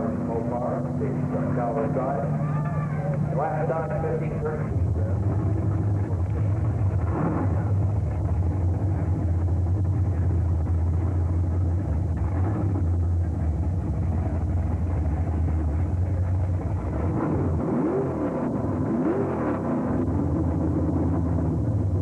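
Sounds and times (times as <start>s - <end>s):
car engine running low speed: 0.0s - 22.0s.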